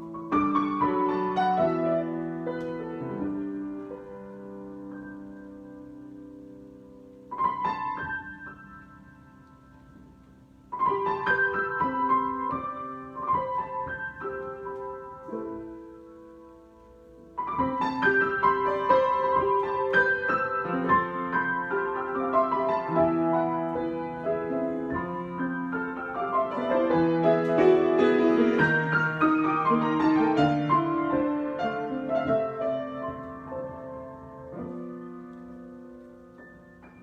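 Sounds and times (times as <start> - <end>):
solo piano improvisation: 0.0 - 37.0.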